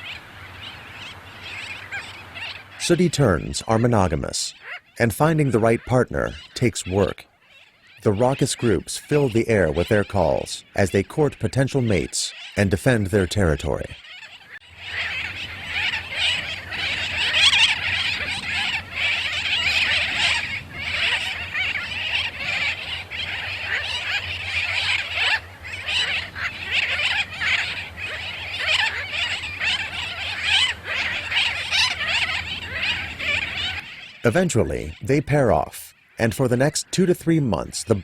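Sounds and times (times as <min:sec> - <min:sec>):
tern colony calling: 0:00.0 - 0:38.0.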